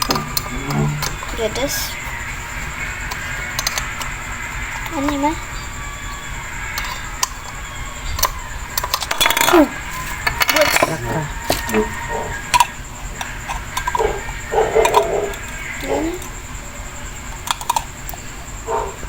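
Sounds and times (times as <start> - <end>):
plastic parts clicking and rattling: 0.0 - 5.4, 6.6 - 16.4, 17.3 - 18.3.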